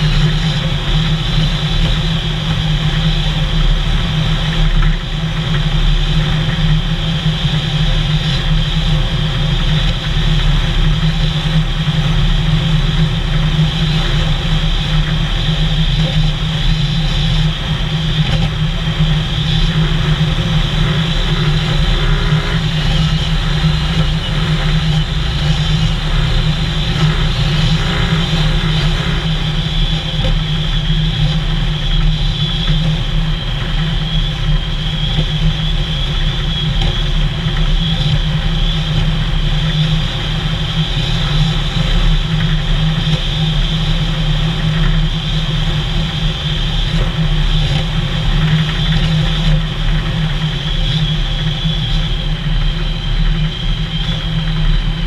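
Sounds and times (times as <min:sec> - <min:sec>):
road noise: 0:00.0 - 0:55.0
vehicle engine running steadily: 0:00.0 - 0:55.0
wind noise: 0:00.0 - 0:55.0.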